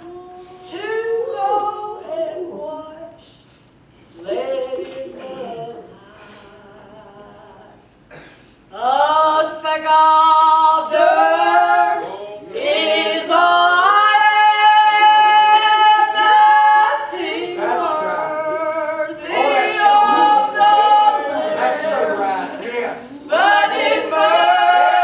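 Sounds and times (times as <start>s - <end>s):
two women singing unaccompanied: 0.0s - 3.4s, 4.2s - 7.8s, 8.7s - 22.2s, 23.2s - 25.0s.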